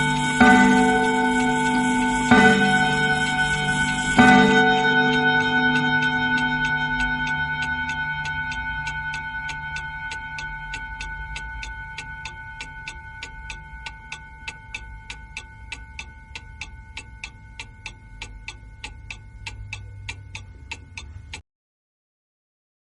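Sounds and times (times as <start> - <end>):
clock hour chime ringing: 0.0 - 21.1
wall clock ticking: 0.0 - 21.4.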